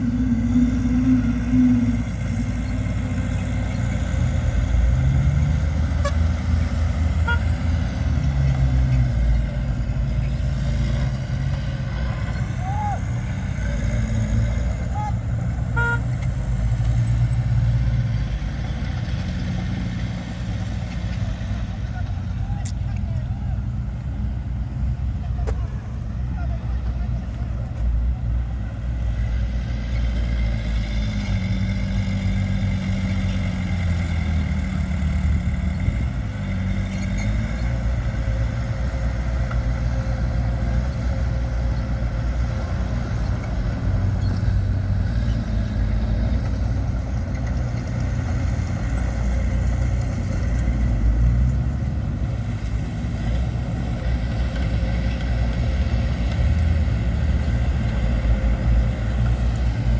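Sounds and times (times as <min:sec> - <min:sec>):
heavy machinery diesel engines: 0:00.0 - 0:59.9.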